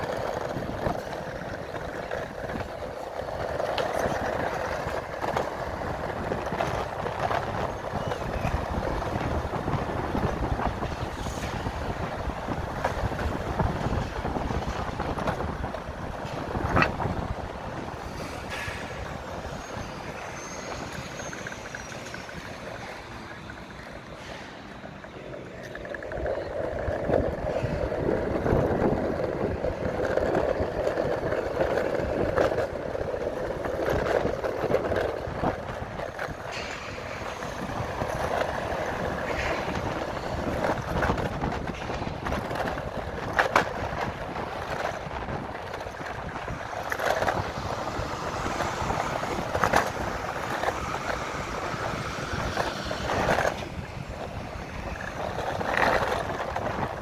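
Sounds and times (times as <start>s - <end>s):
skateboard wheels rumbling on asphalt: 0.0s - 57.0s.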